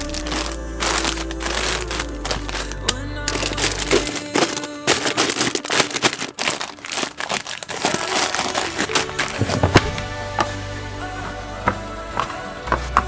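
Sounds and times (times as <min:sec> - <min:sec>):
plastic packets crinkling: 0:00.0 - 0:10.5
background music: 0:00.0 - 0:13.0.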